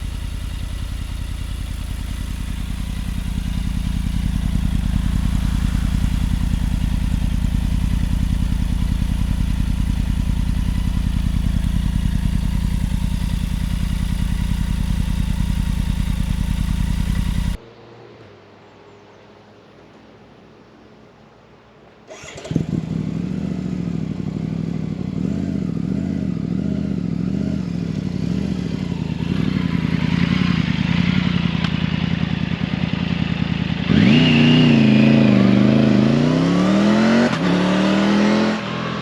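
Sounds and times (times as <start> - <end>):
motorcycle engine burbling: 0.0 - 17.6, 22.1 - 39.0.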